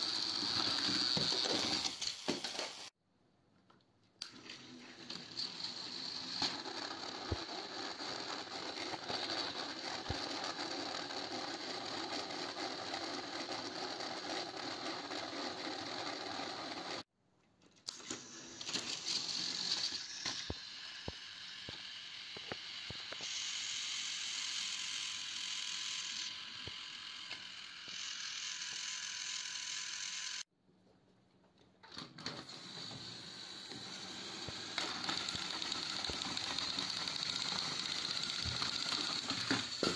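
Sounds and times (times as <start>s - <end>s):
toy train motors whirring: 0.0s - 3.0s, 4.2s - 17.1s, 17.9s - 30.5s, 32.2s - 39.9s.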